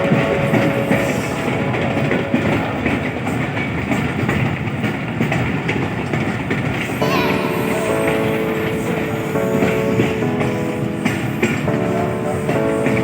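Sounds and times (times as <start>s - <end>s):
train rumble: 0.0s - 13.0s
wheels clattering over rails: 0.0s - 13.0s.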